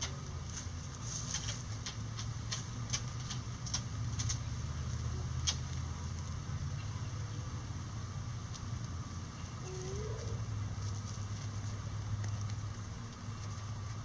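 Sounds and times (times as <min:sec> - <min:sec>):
chickens scratching in dry leaves: 0:00.0 - 0:14.0
steady low rumble: 0:00.0 - 0:14.0.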